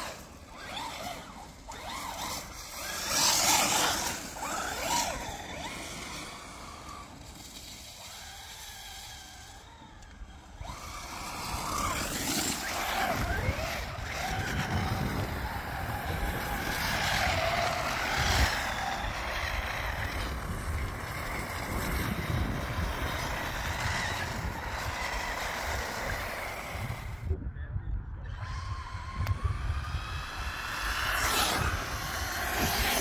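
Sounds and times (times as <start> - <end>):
electric motor whining: 0.0 - 27.3, 28.2 - 33.0
wheels spinning through snow: 0.0 - 27.4, 28.0 - 33.0.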